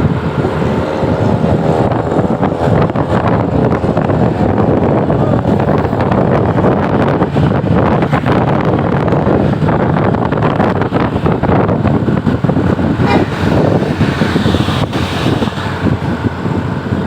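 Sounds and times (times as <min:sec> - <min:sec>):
road traffic: 0:00.0 - 0:17.0
wind on microphone: 0:00.0 - 0:17.0.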